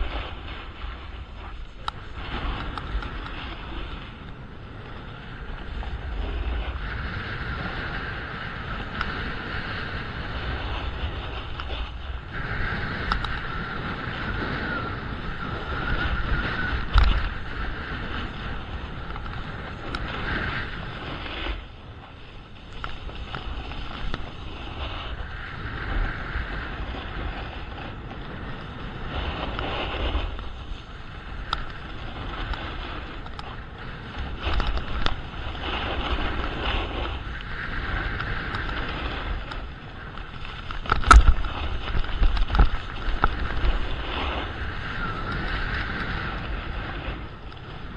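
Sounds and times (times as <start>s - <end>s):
wind on microphone: 0.0s - 47.9s.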